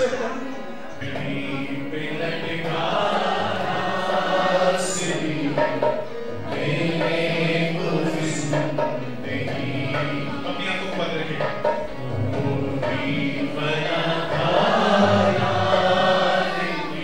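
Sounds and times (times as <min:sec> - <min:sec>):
harmonium: 0:00.0 - 0:17.0
man singing worship song: 0:01.0 - 0:05.6, 0:07.2 - 0:17.0.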